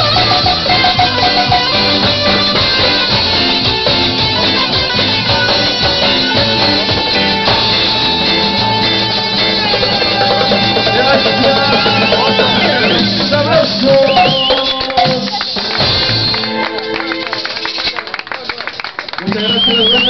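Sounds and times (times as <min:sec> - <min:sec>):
live band playing: 0:00.0 - 0:20.0
percussion: 0:00.0 - 0:20.0.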